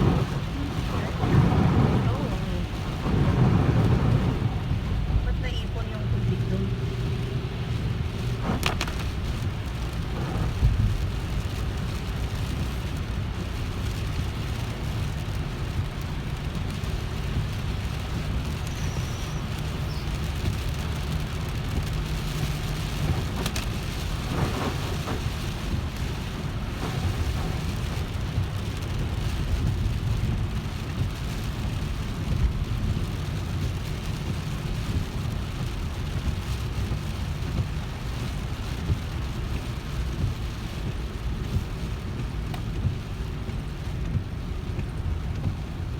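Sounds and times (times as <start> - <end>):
car engine and road rumble: 0.0 - 45.9
rain and spray hiss: 0.0 - 45.9.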